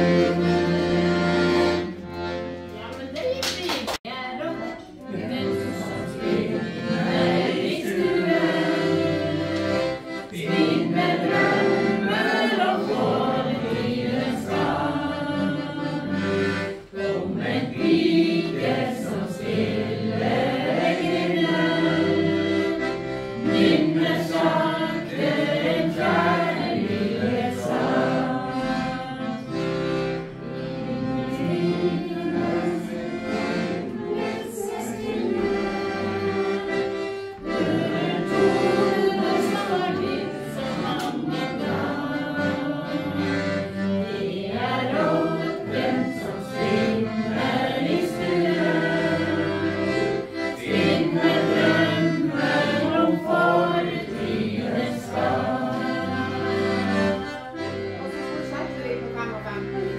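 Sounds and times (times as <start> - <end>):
group of people singing: 0.0 - 2.4, 4.9 - 58.0
accordion: 0.0 - 59.9.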